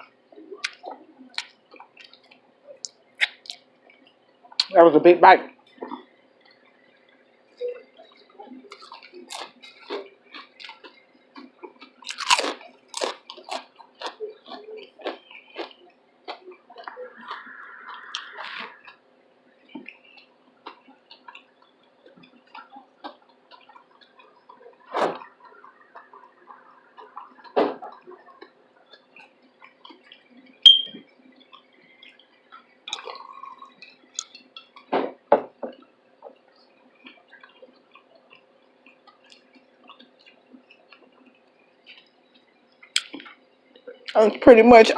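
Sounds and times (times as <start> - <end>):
person chewing food: 0.0 - 4.8, 5.7 - 44.2.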